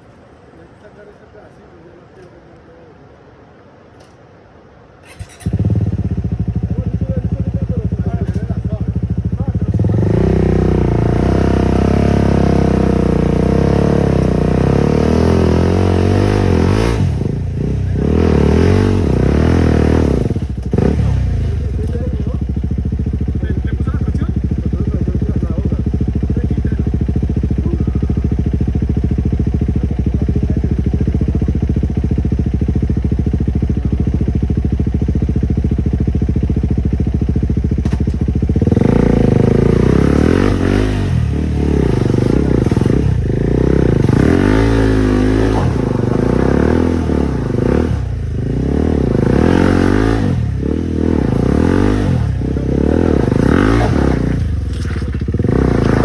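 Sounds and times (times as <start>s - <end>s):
motorcycle engine revving: 5.0s - 56.0s.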